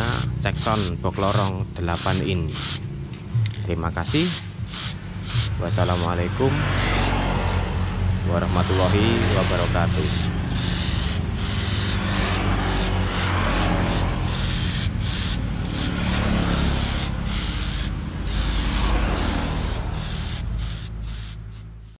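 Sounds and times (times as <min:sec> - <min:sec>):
spray-paint can hissing: 0:00.0 - 0:02.9, 0:04.0 - 0:06.1, 0:08.5 - 0:22.0.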